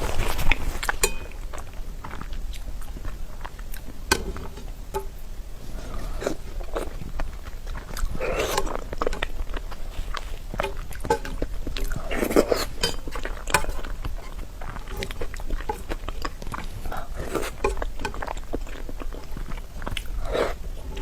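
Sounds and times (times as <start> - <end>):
wet chewing and mouth smacking: 0.0 - 21.0.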